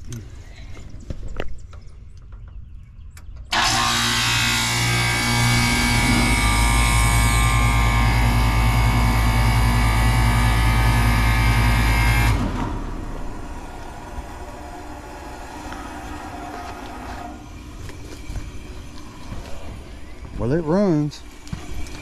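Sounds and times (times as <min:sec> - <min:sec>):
compressor electrical hum: 0:00.0 - 0:22.0.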